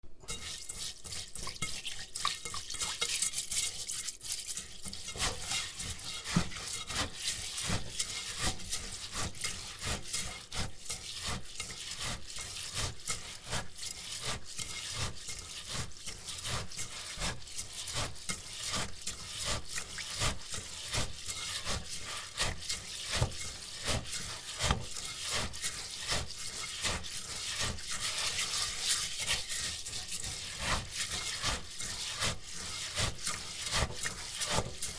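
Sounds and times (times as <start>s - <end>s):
rice being washed in a bowl: 0.1s - 34.9s.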